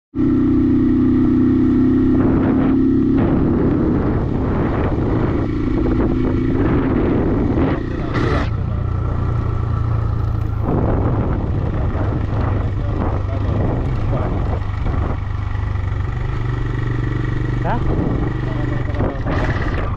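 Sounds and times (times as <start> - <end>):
motorcycle engine drone: 0.1 - 19.9.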